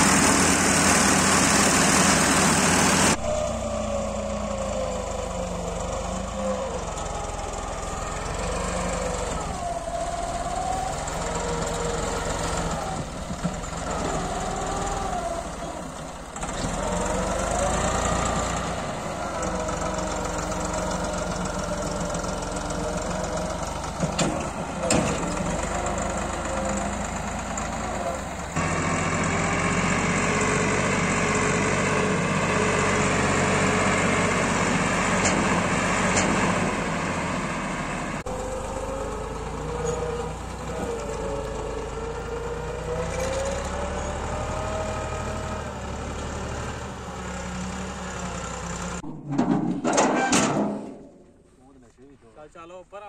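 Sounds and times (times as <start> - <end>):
tractor diesel engine running: 0.0 - 49.2.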